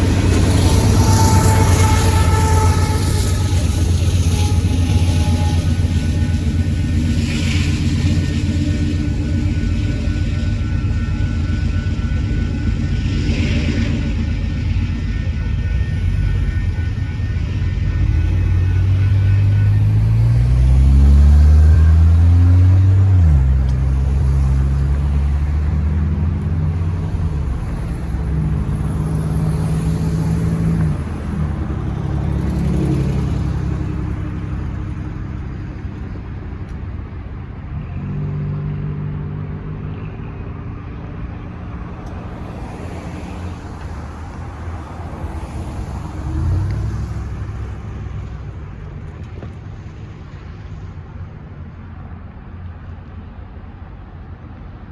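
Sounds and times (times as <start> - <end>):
locomotive engine drone: 0.0 - 54.9
wheels rumbling on rail: 0.0 - 54.9.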